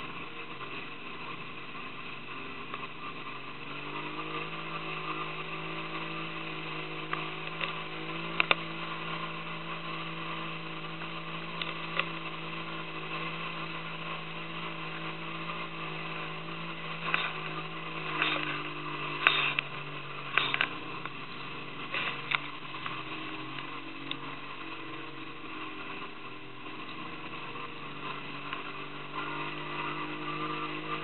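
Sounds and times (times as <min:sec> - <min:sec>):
boat motor humming: 0:00.0 - 0:31.0.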